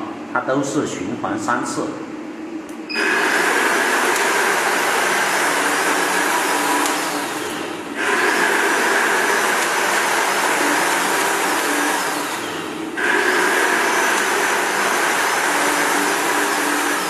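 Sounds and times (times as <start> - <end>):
spark machines hissing: 3.0 - 17.0.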